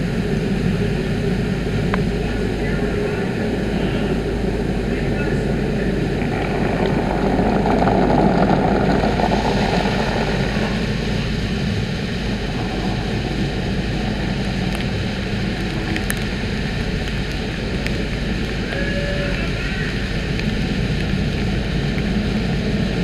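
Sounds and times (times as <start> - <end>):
water spraying: 3.6 - 23.0.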